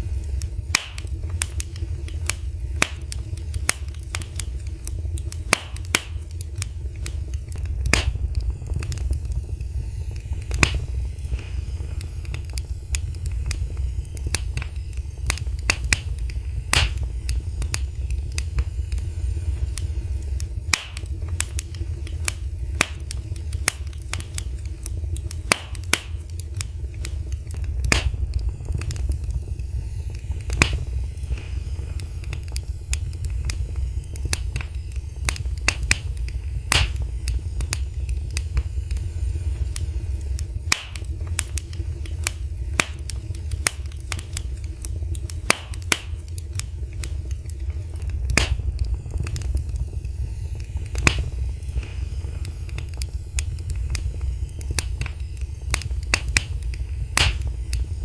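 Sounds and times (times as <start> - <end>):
wood fire burning: 0.0 - 58.0.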